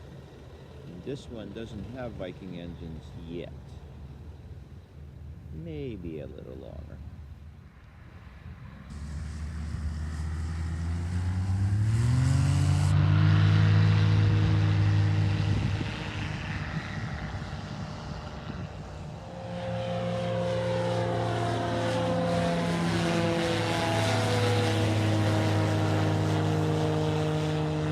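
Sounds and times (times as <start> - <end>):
propeller airplane engine: 0.0 - 27.9.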